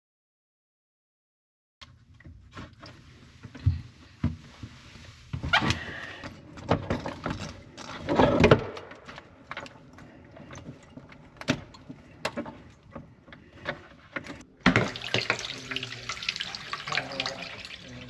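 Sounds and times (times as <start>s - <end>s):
objects knocking and scraping: 2.2s - 16.9s.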